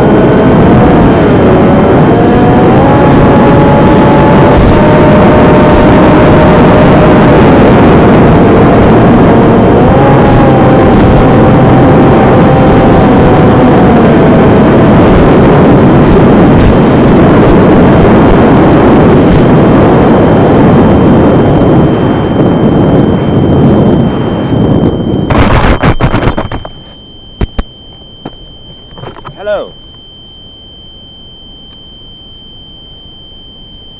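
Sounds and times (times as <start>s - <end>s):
wind rushing over microphone: 0.0s - 29.8s
electric motor and propeller whine: 0.0s - 33.9s.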